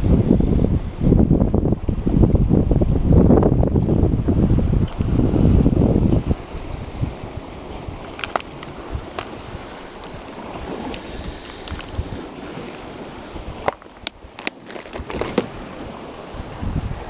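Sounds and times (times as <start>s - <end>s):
sea surf on rocks: 0.0s - 17.0s
wind buffeting microphone: 0.0s - 17.0s.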